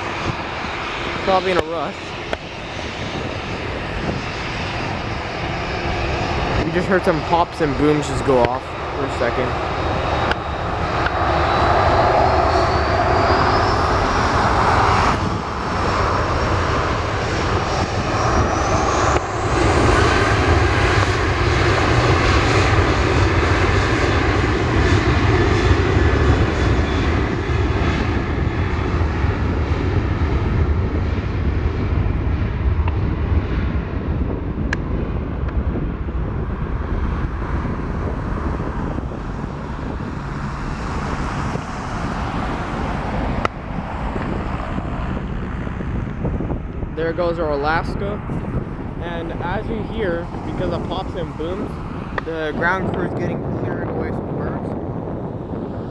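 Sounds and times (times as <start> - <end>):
jet engines spooling up whine: 0.0 - 55.9
loud jet roar: 0.0 - 55.9.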